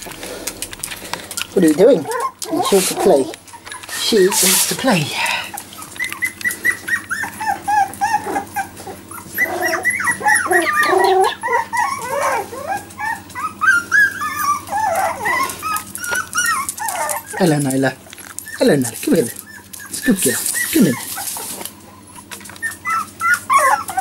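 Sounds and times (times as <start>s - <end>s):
puppies whining and yipping: 0.0s - 24.0s.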